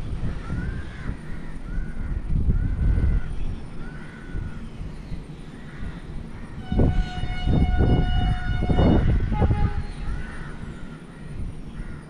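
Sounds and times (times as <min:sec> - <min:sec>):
crow cawing: 0:00.4 - 0:04.7, 0:05.5 - 0:12.0.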